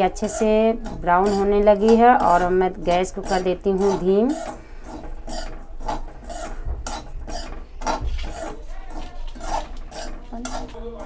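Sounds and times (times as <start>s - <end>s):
metal spatula scraping pan: 0.0s - 7.6s, 8.2s - 11.0s.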